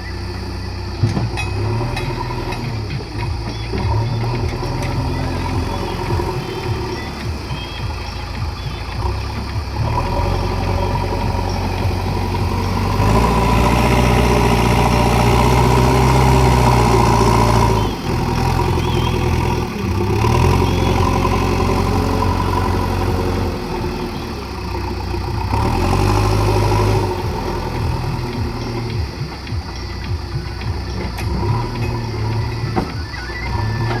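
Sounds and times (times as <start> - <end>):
backhoe diesel engine revving: 0.0 - 34.0.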